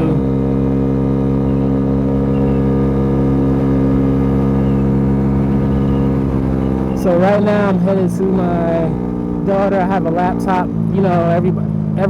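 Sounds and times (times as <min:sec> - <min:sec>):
scooter engine at high revs: 0:00.0 - 0:12.0.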